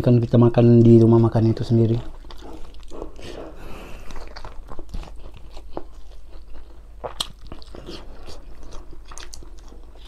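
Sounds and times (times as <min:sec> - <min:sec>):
chewing and lip-smacking: 0:01.9 - 0:10.0.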